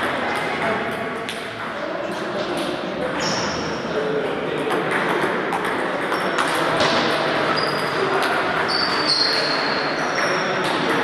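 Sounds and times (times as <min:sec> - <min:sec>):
table tennis balls ticking: 0:00.0 - 0:03.1, 0:04.6 - 0:11.0
background chatter: 0:00.0 - 0:11.0.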